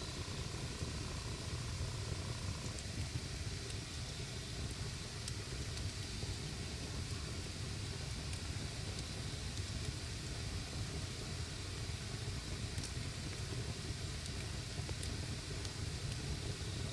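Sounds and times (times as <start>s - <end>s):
campfire burning: 0.1s - 16.9s.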